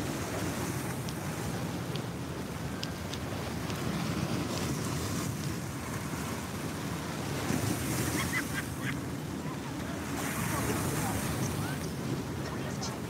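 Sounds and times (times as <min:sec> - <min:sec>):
waves splashing against rocks: 0:00.0 - 0:13.0.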